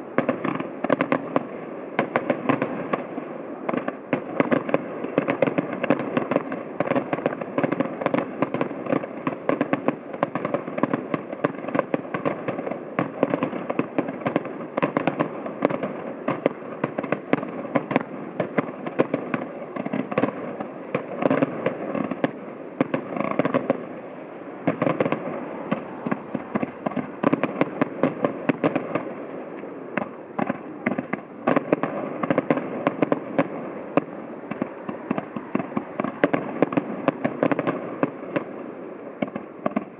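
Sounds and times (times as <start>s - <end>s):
distant fireworks bangs and crackling: 0.0s - 39.9s.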